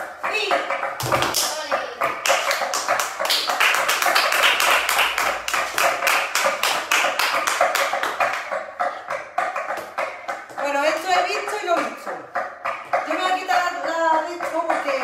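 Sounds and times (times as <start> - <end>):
sharp hand-clapping: 1.0 - 15.0.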